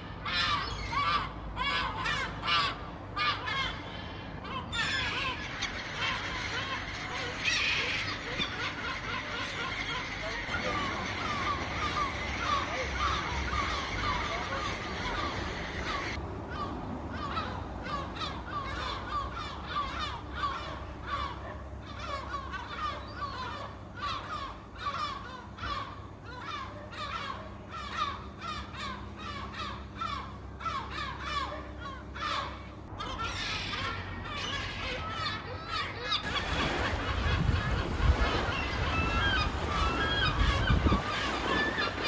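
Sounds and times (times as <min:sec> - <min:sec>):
gulls calling: 0:00.0 - 0:42.0.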